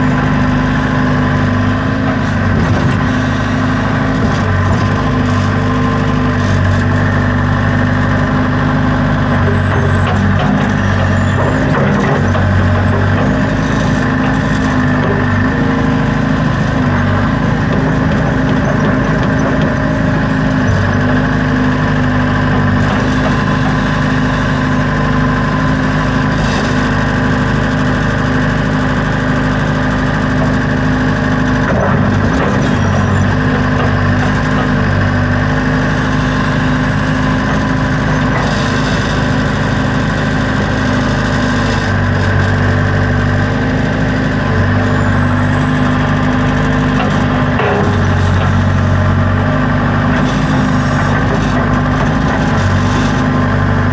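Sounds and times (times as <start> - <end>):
backhoe diesel engine running: 0.0 - 53.9.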